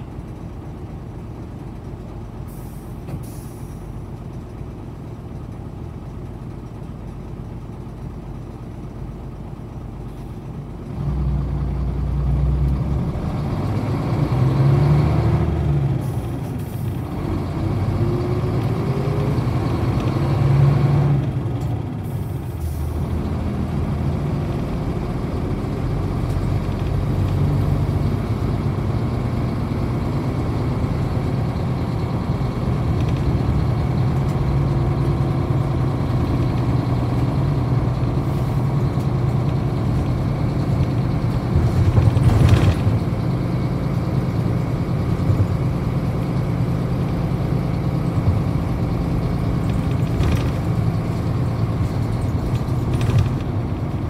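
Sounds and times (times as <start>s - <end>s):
bus diesel engine changing gear: 0.0s - 54.0s.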